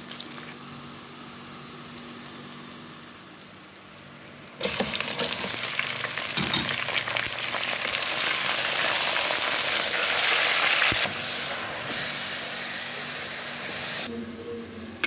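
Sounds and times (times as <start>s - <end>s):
onions sizzling in oil: 0.0s - 14.1s.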